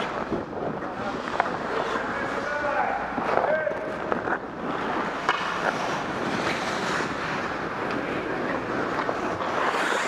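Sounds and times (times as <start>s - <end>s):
skate blades scraping ice: 0.0s - 10.0s.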